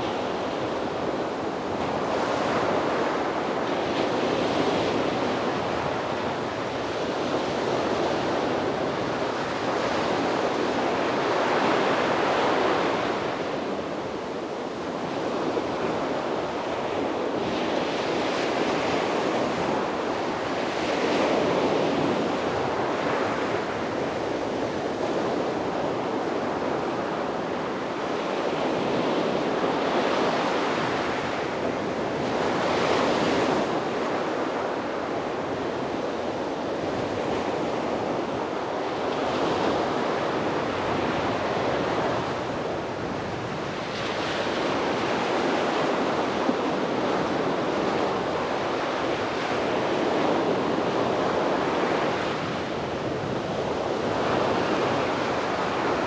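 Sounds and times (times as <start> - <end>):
sea waves breaking on a beach: 0.0 - 56.0
wind on the microphone: 0.0 - 56.0.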